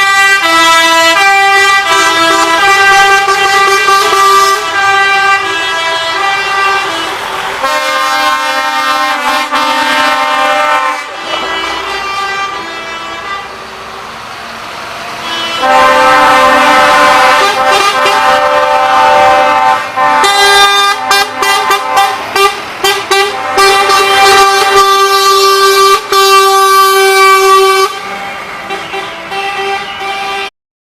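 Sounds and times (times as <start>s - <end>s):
truck air horns honking: 0.0s - 30.5s.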